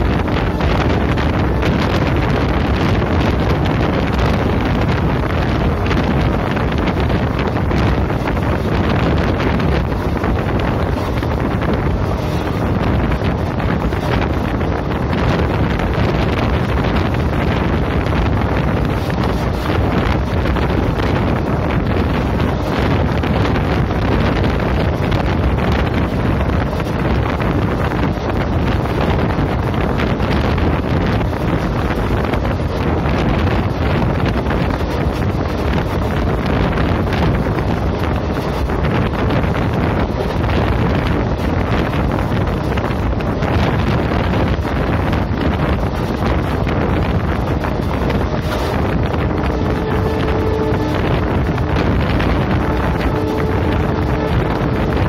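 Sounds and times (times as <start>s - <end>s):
train running on rails: 0.0s - 55.0s
wind buffeting microphone: 0.0s - 55.0s.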